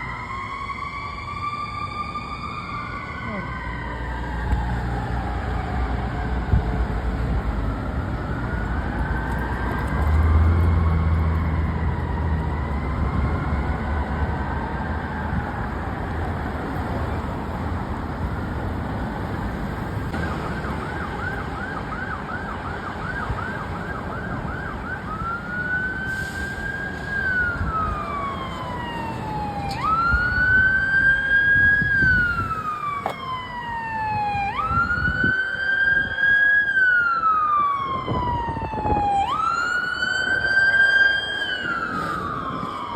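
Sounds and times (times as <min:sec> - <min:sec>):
engine and road noise: 0:00.0 - 0:42.9
fire engine siren: 0:00.0 - 0:42.9.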